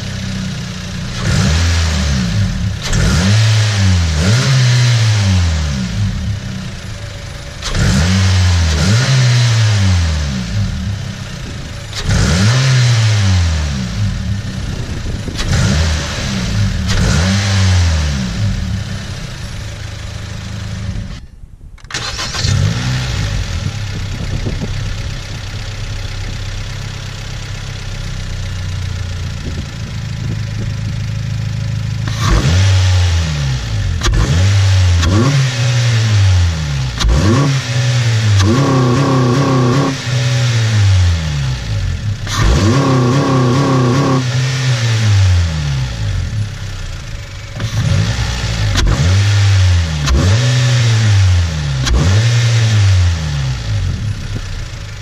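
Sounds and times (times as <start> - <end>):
car engine idling: 0.0 - 3.3, 5.4 - 12.5, 13.3 - 22.4, 23.0 - 32.4, 36.1 - 50.2, 52.8 - 55.0
car engine revving: 0.0 - 55.0.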